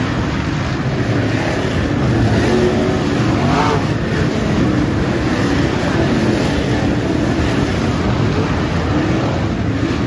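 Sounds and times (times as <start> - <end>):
race car engines revving: 0.0 - 10.0.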